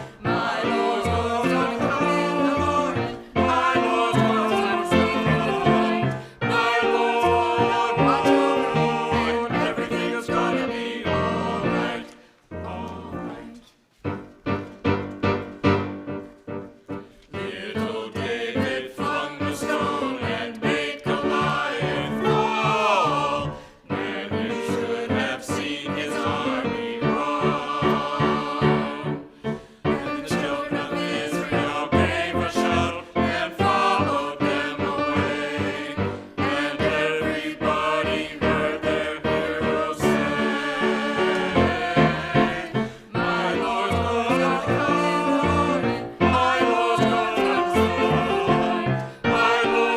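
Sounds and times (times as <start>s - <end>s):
choir singing with accompaniment: 0.0s - 49.9s.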